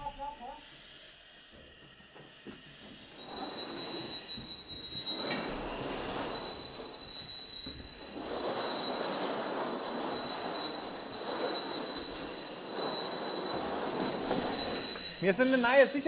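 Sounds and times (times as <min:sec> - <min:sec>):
high-pitched alarm tone: 0:01.6 - 0:16.0.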